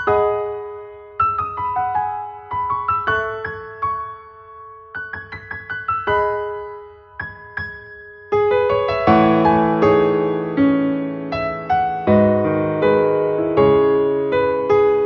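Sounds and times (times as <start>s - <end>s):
light piano melody: 0.0s - 15.0s.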